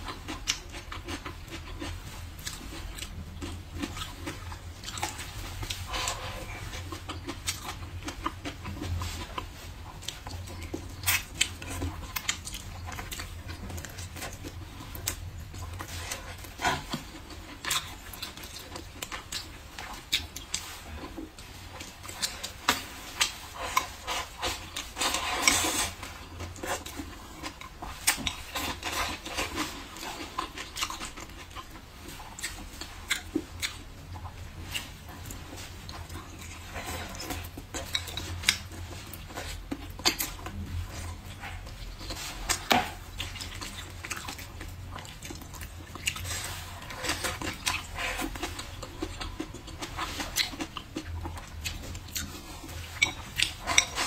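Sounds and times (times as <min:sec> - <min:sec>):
wet chewing and mouth smacks: 0:00.0 - 0:54.0.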